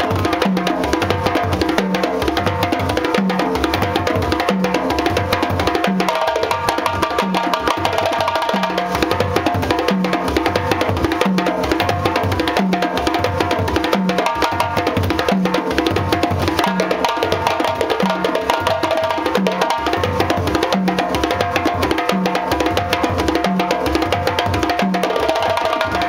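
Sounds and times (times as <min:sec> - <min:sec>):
accompanying djembes: 0:00.0 - 0:26.0
lead djembe soloing: 0:00.0 - 0:26.0.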